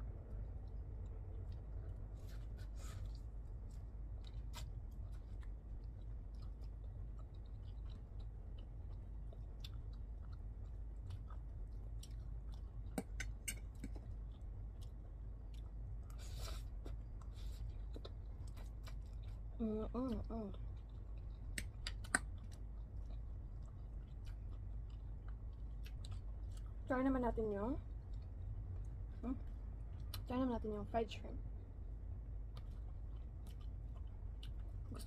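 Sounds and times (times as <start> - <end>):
chewing with wet clicks: 0.0 - 30.5, 31.8 - 35.0
steady low hum: 0.0 - 35.0.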